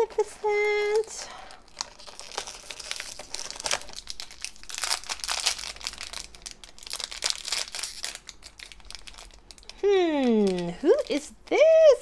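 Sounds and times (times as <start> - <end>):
plastic foil bag crinkling: 0.0 - 11.4.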